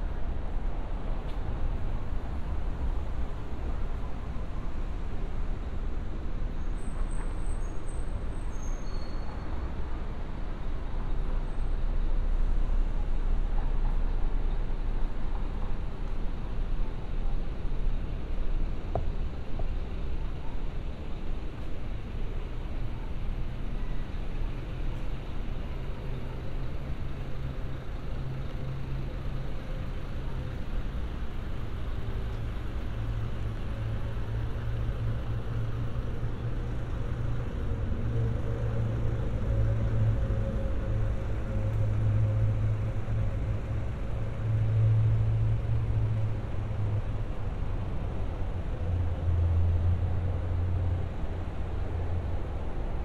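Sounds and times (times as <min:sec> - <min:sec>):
city traffic rumble: 0:00.0 - 0:53.0.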